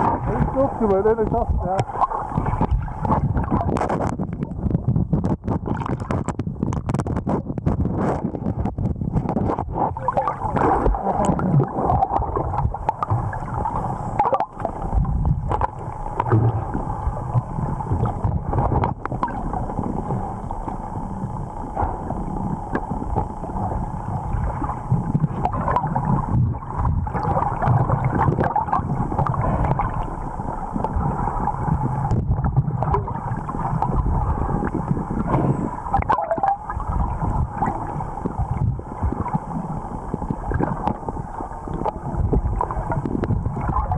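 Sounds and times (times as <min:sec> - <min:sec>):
muffled underwater water rushing: 0:00.0 - 0:43.9.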